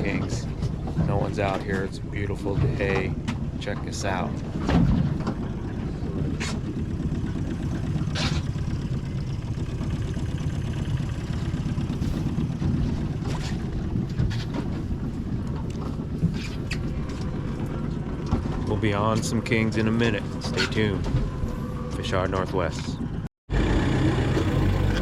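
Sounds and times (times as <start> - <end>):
boat engine rumbling: 0.0 - 25.0.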